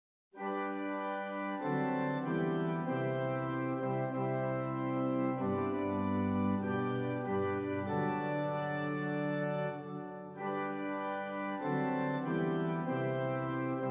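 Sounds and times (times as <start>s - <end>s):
organ playing slow chords: 0.4s - 13.9s.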